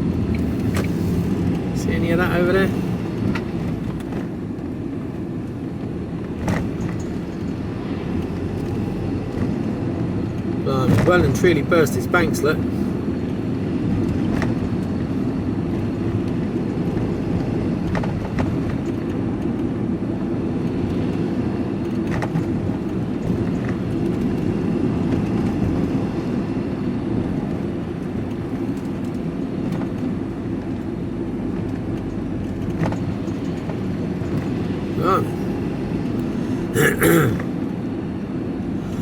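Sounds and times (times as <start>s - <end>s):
van engine and tyre drone: 0.0s - 39.0s.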